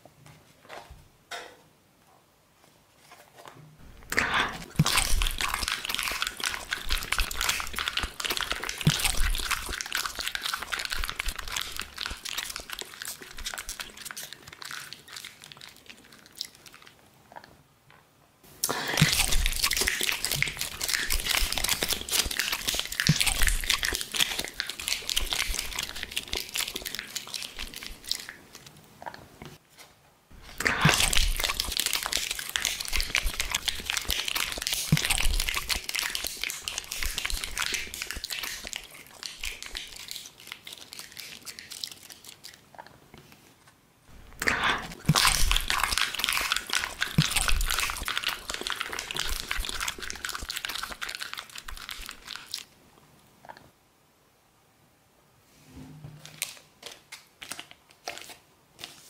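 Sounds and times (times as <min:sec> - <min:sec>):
plastic packaging crinkling: 0:03.1 - 0:17.0, 0:18.7 - 0:28.7, 0:30.4 - 0:42.6, 0:44.2 - 0:52.7, 0:56.2 - 0:59.0.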